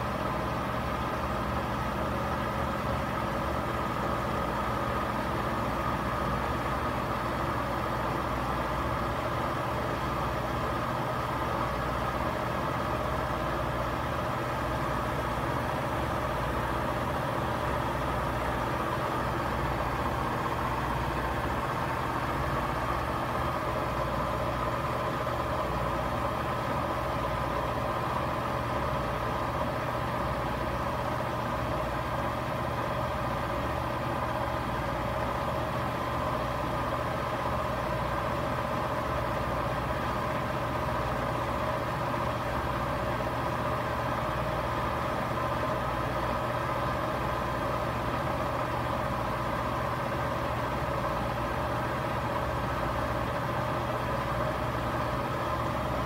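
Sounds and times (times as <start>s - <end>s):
washing machine spin cycle: 0.0s - 56.0s.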